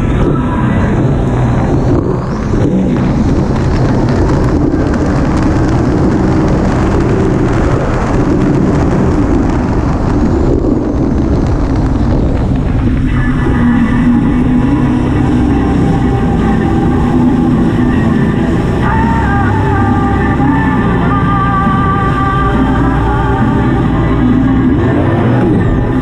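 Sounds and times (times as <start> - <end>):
motorboat engine running: 0.0 - 26.0
water rushing and splashing: 0.0 - 26.0
wind buffeting microphone: 0.0 - 26.0.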